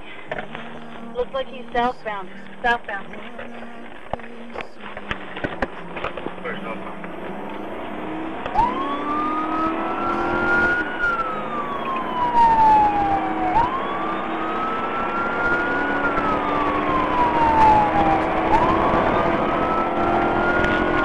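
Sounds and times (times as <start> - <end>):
car engine and road noise: 0.0 - 21.0
police siren wailing: 0.3 - 21.0.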